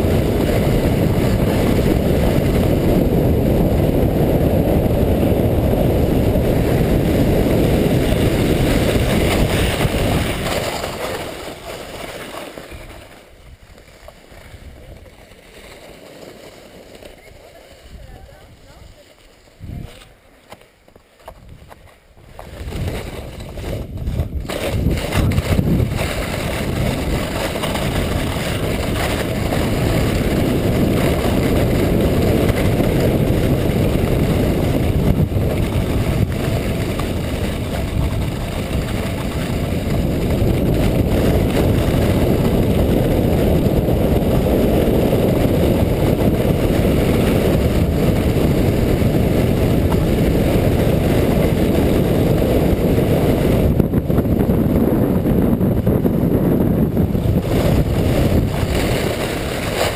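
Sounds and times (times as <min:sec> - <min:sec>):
wind buffeting microphone: 0:00.0 - 0:11.7, 0:17.2 - 0:20.2, 0:21.3 - 0:59.9
sled runners rumbling on snow: 0:00.0 - 0:59.9.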